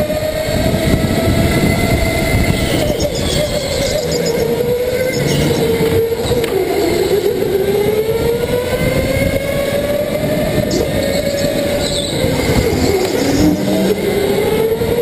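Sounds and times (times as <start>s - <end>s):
go-kart motor racing: 0.0s - 15.0s.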